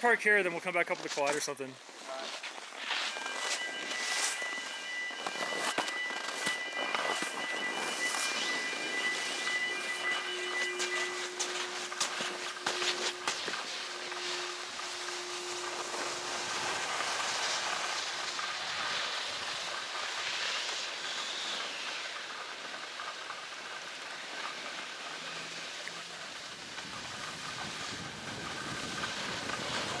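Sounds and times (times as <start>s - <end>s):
snowboard scraping over snow: 0.9s - 30.0s.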